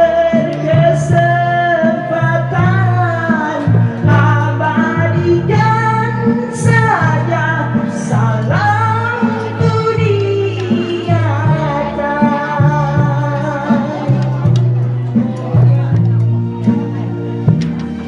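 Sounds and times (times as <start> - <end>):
man singing into microphone: 0.0 - 14.5
karaoke backing track: 0.0 - 18.0.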